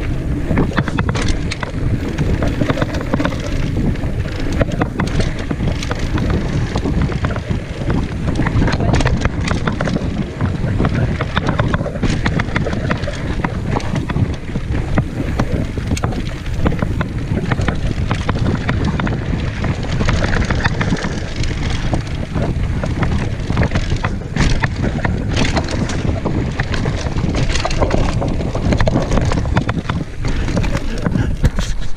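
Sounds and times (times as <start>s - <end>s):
bike rattling over bumps: 0.0s - 31.9s
bike tyre noise: 0.0s - 31.9s
wind rushing over microphone: 0.0s - 31.9s.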